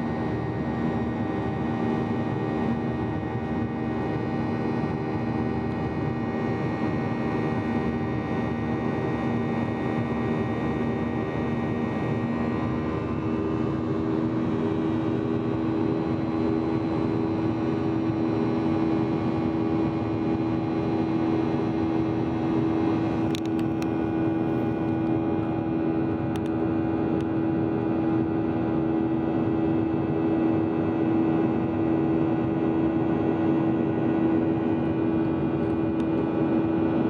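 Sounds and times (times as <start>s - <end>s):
jet engine hum in cabin: 0.0s - 37.0s.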